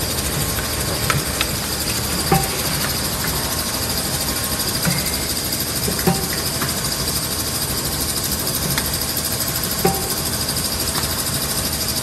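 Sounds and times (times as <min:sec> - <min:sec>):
machine hum and hiss: 0:00.0 - 0:12.0
pneumatic clicks and knocks: 0:00.4 - 0:11.6.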